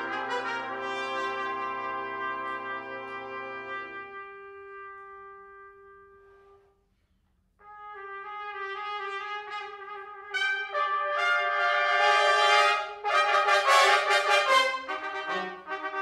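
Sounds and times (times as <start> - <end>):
trumpets and flugelhorns playing chords: 0.0 - 6.7, 7.6 - 16.0.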